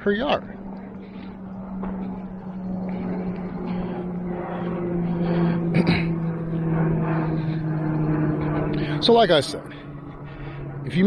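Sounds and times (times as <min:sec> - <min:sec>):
motor droning: 0:00.0 - 0:11.0.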